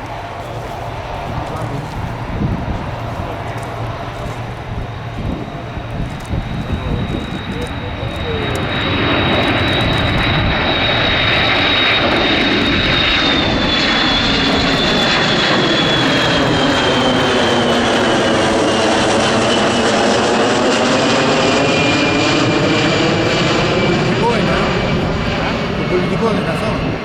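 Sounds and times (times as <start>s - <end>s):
jet aircraft passing: 0.0s - 27.0s.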